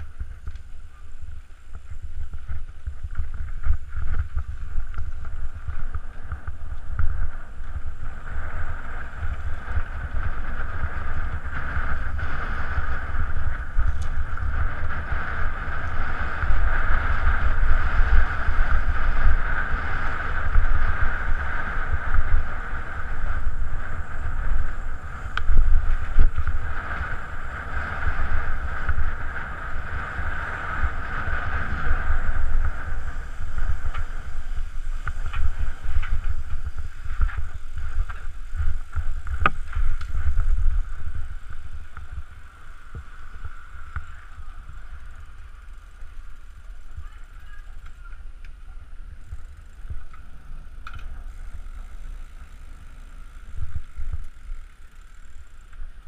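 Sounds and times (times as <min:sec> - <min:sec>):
mountain bike rolling noise: 0:00.0 - 0:56.0
steady mid-pitched hum: 0:00.0 - 0:56.0
wind buffeting microphone: 0:00.0 - 0:56.0.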